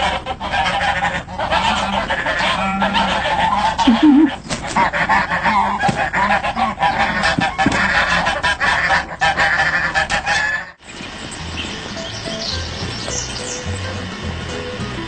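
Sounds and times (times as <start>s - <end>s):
flock of birds calling: 0.0s - 14.8s.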